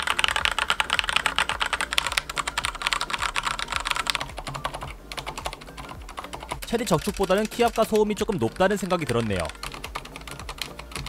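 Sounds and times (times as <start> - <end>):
fast mechanical keyboard typing: 0.0 - 11.0
quieter keyboard typing: 0.0 - 11.0.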